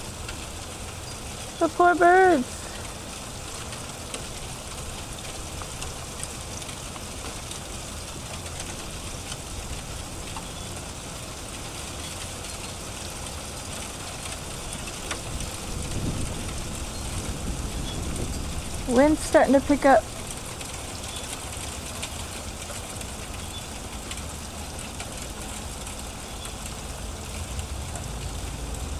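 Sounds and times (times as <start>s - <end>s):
hail falling: 0.0s - 28.9s
hail pellets ticking: 0.0s - 28.9s.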